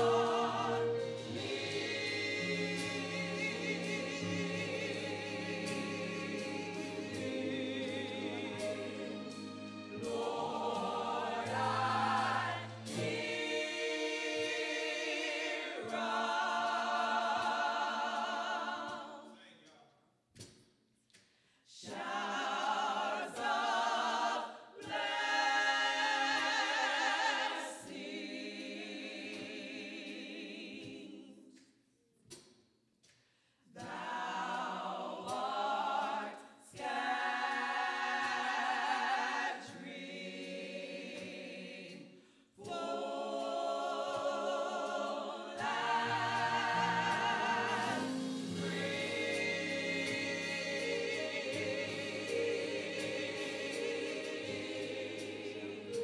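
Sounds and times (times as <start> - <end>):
church choir singing: 0.0 - 19.5, 21.7 - 31.6, 33.8 - 56.0.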